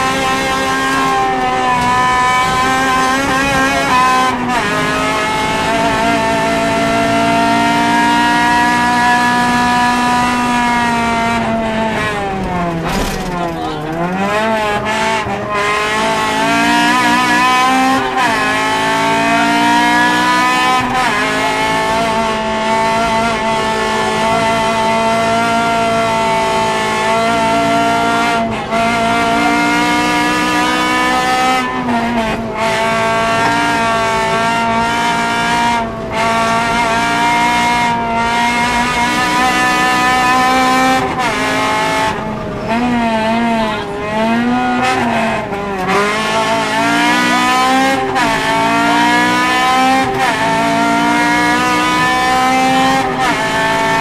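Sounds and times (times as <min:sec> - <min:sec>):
car engine revving at full throttle: 0:00.0 - 0:54.0.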